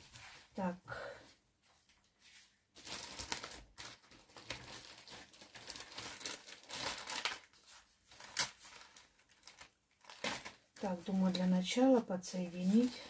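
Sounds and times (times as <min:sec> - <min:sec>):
rustling of belts and cables: 0:00.0 - 0:11.7, 0:12.3 - 0:13.0.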